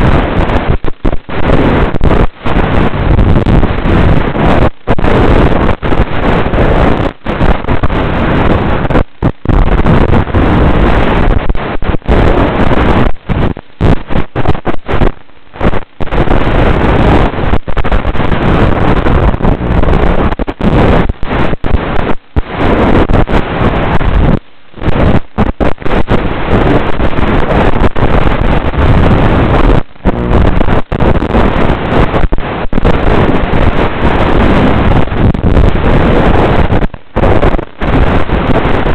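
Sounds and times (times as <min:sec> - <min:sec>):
loud rushing wind: 0:00.0 - 0:38.9.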